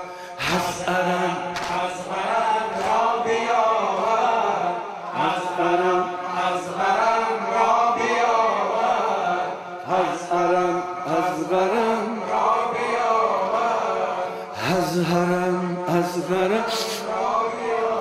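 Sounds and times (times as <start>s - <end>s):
men chanting a mourning lament: 0.0s - 18.0s.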